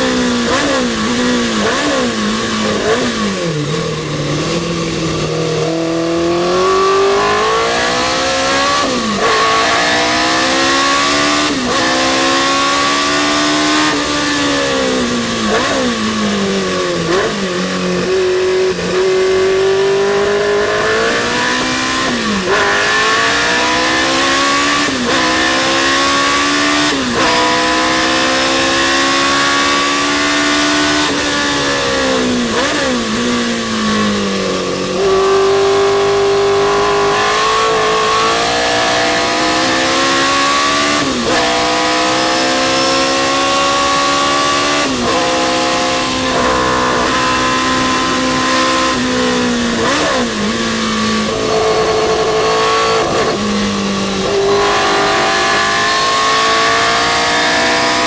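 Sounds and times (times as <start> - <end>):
racing car engine revving: 0.0 - 58.0
wind and road noise: 0.0 - 58.0.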